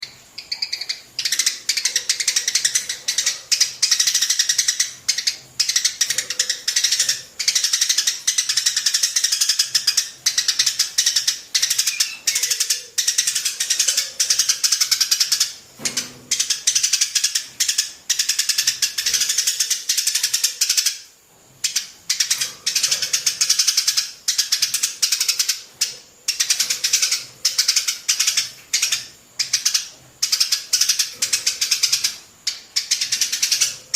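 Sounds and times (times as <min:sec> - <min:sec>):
sparrows chirping: 0:00.0 - 0:33.9.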